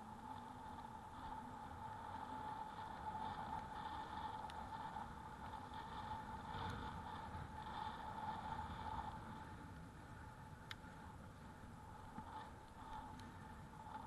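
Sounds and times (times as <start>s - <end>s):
bike rolling noise: 0.0s - 14.0s
constant hum: 0.0s - 14.0s.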